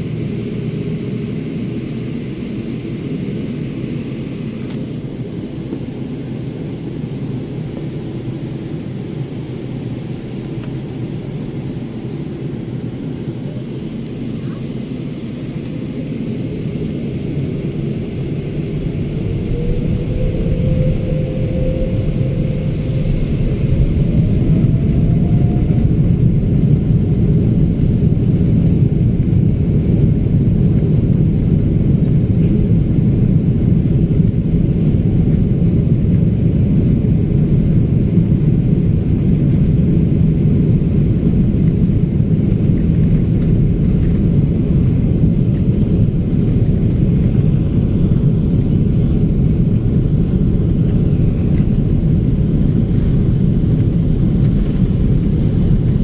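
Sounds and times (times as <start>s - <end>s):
jet engines rumbling in cabin: 0.0s - 56.0s
rising jet engine whine: 0.0s - 56.0s.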